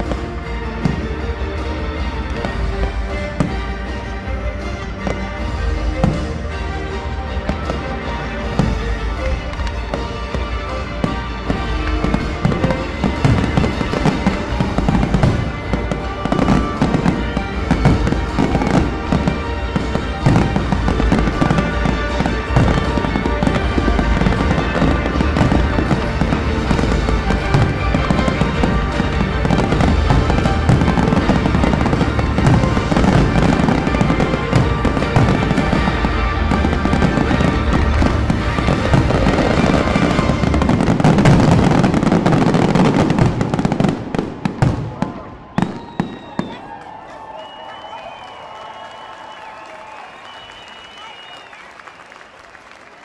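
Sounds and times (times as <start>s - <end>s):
fireworks bursting and crackling: 0.0s - 53.0s
music playing: 0.0s - 53.0s.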